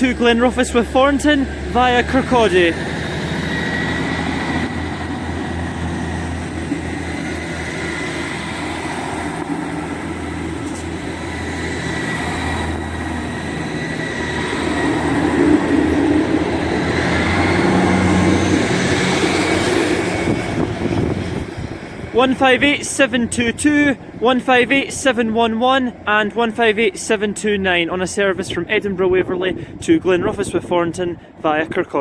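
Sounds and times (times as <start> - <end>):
wheel-on-rail noise: 0.0 - 26.1
diesel train engines under power: 0.0 - 32.0.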